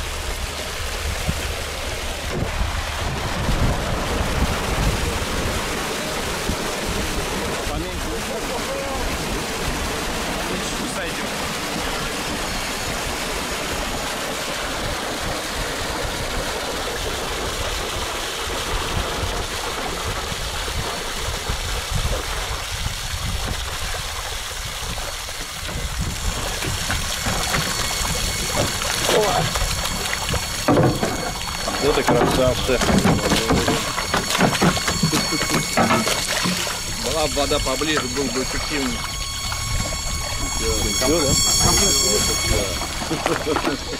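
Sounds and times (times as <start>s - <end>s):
water and fish splashing down a chute: 0.0s - 43.9s.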